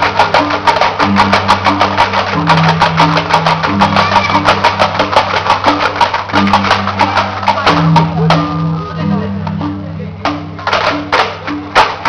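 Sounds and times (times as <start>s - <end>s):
low repeating melody: 0.0s - 11.8s
fast percussive clicking: 0.0s - 12.0s.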